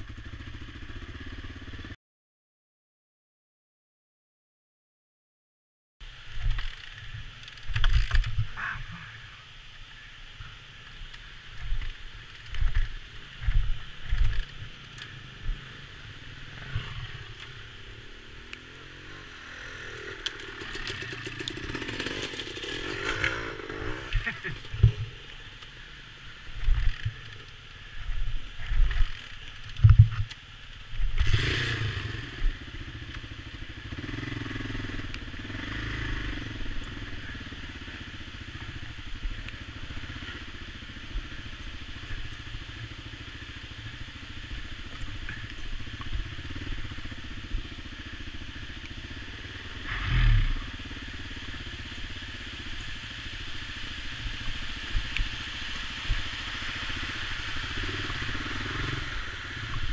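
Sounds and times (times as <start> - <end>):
motorcycle engine running: 0.0 - 2.0, 11.6 - 59.9.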